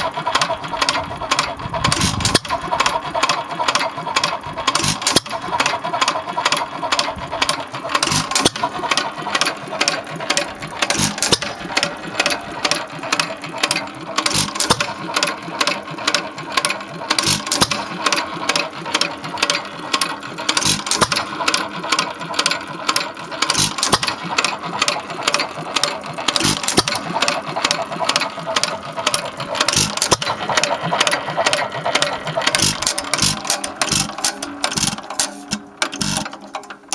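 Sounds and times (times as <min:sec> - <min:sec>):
engine firing knock: 0:00.0 - 0:36.6
stationary engine clicking: 0:00.0 - 0:36.9.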